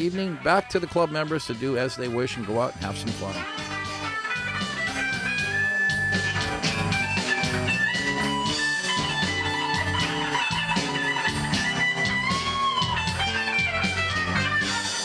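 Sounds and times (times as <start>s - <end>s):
bass: 0.0s - 15.0s
electric guitar lead: 0.0s - 15.0s.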